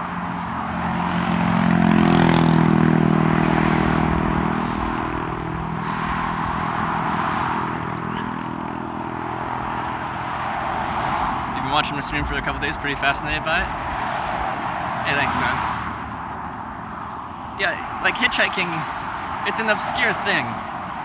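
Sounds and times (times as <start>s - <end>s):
vehicle passing on road: 0.0s - 21.0s.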